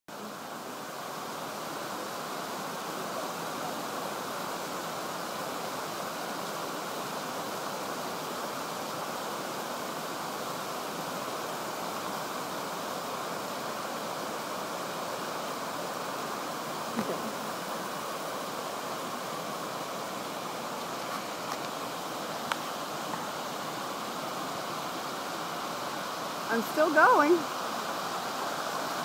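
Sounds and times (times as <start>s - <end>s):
waterfall rushing over rocks: 0.1s - 29.0s.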